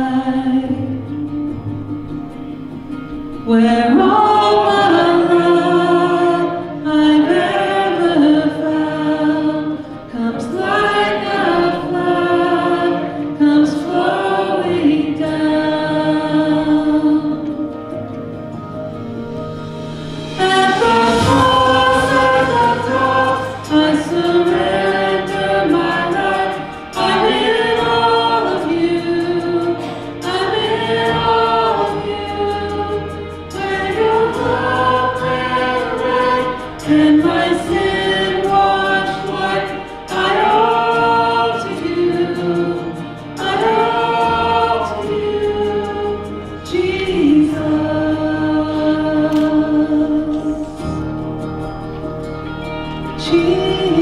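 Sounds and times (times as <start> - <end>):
group singing worship song: 0.0 - 1.1, 3.4 - 18.0, 19.7 - 51.6, 52.7 - 54.0
musical accompaniment: 0.0 - 54.0.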